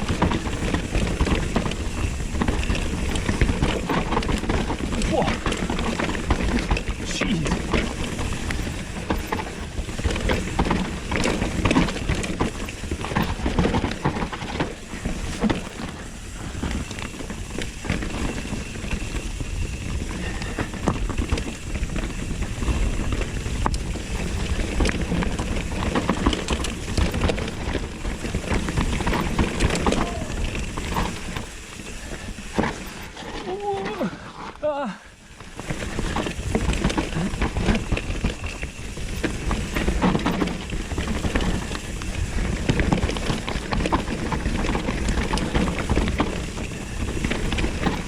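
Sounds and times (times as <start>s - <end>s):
bike rattling over bumps: 0.0s - 48.0s
bike tyres rolling over dirt: 0.0s - 48.0s
wind rumbling on microphone: 0.0s - 48.0s.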